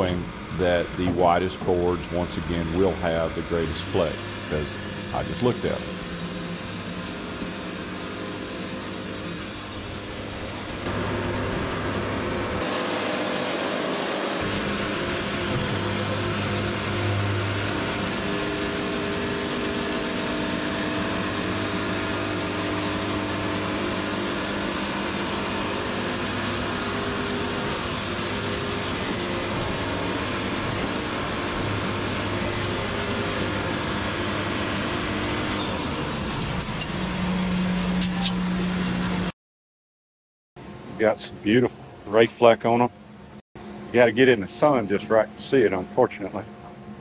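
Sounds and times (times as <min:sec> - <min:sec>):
sawmill engine humming: 0:00.0 - 0:39.3, 0:43.6 - 0:47.0.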